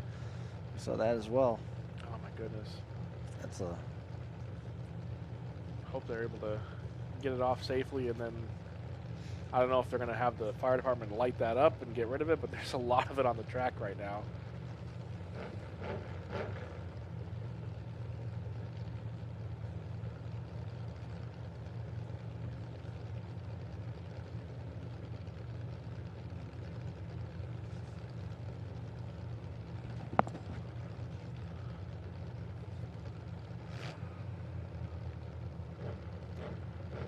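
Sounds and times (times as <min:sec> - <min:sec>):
vehicle engines idling: 0:00.0 - 0:37.0.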